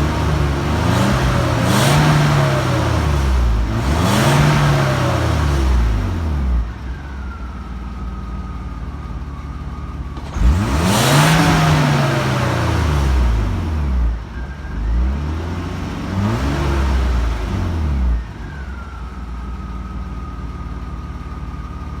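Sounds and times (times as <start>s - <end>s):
car engine idling and revving: 0.0s - 22.0s
thin engine whine: 0.0s - 22.0s.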